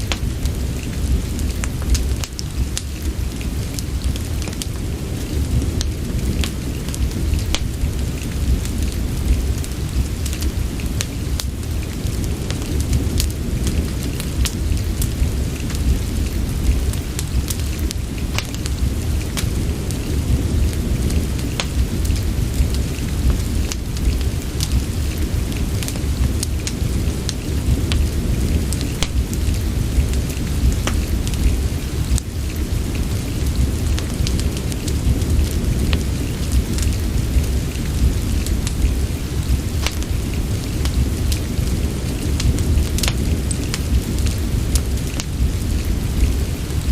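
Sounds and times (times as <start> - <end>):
deep constant rumble: 0.0 - 46.9
steady rain: 0.0 - 46.9
wood fire crackling and popping: 0.0 - 46.9.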